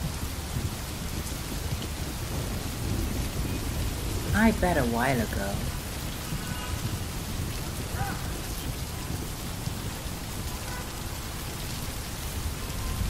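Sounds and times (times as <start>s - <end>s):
rain splashing on wet ground: 0.0s - 13.0s.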